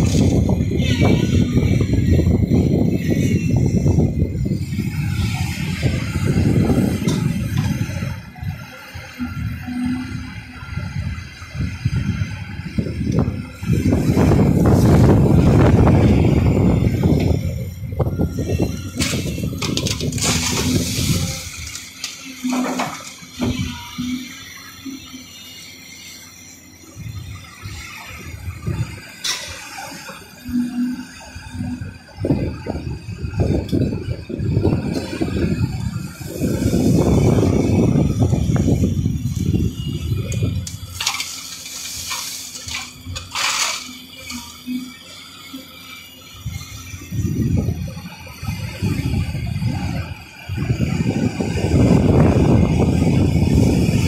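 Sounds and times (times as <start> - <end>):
excavator hydraulic whines: 0.0 - 54.0.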